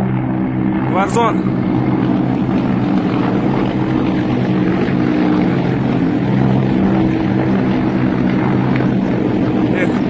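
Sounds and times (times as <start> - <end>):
helicopters flying overhead: 0.0 - 10.0.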